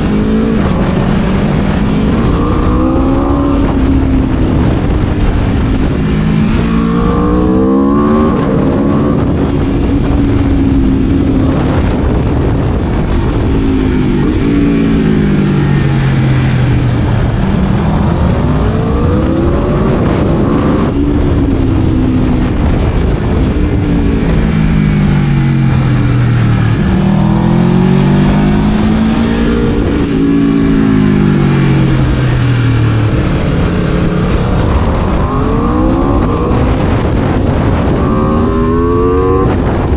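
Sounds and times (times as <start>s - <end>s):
sport-bike engine revving: 0.0s - 16.5s, 17.2s - 39.9s.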